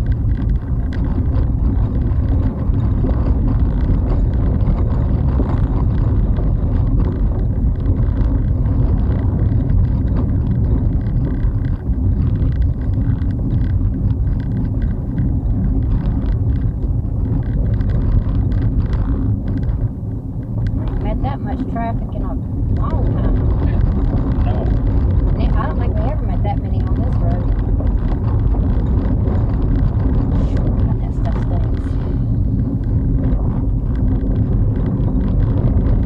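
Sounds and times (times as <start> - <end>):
engine and tyres rumbling: 0.0 - 36.0.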